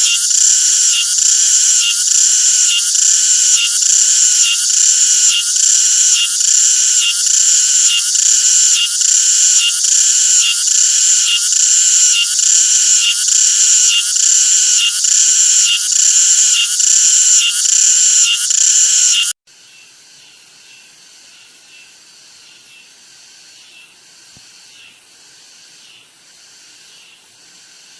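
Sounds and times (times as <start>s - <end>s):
cicada singing: 0.0s - 27.9s.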